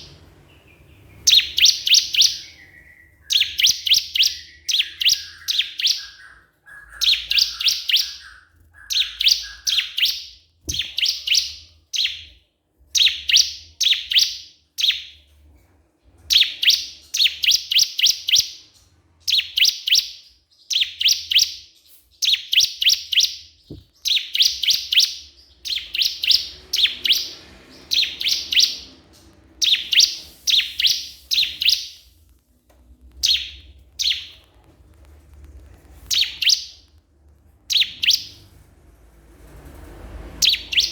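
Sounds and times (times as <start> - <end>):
bird singing rapid chattering song: 0.0 - 15.2, 16.3 - 32.2, 33.1 - 34.5, 36.0 - 36.9, 37.6 - 38.5, 40.4 - 40.9.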